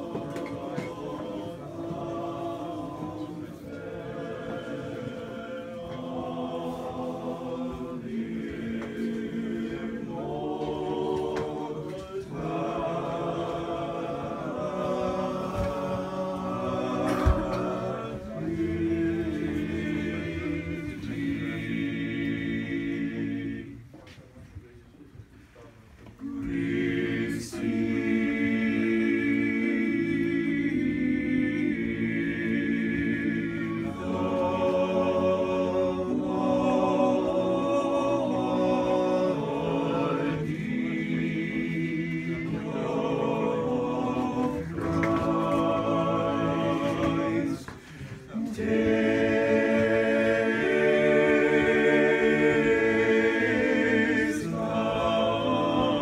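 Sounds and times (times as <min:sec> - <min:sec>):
a cappella choir singing: 0:00.0 - 0:24.1, 0:26.0 - 0:56.0.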